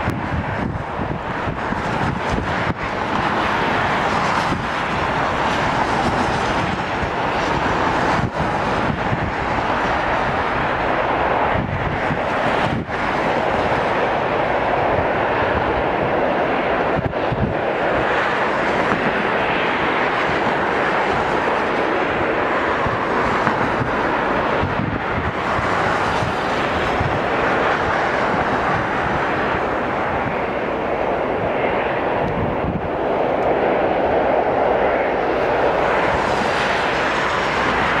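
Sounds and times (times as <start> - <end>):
distant jet noise: 0.0 - 38.0
wind buffeting microphone: 0.0 - 38.0.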